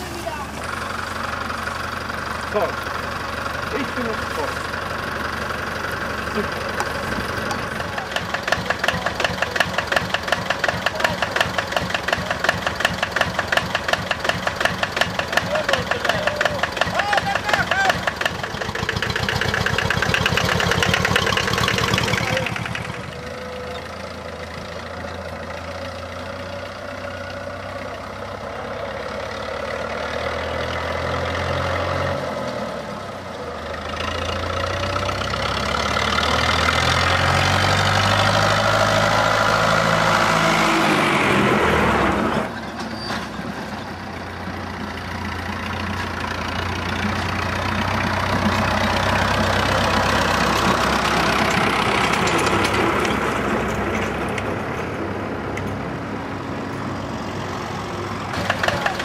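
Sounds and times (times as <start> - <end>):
tractor engine idling: 0.0 - 31.0, 32.4 - 59.0
tractor passing along lane: 0.0 - 59.0.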